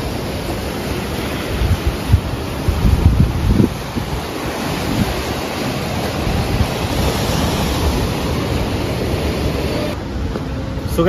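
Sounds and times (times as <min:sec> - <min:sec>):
sea waves breaking: 0:00.0 - 0:11.0
wind rumbling on microphone: 0:00.0 - 0:11.0.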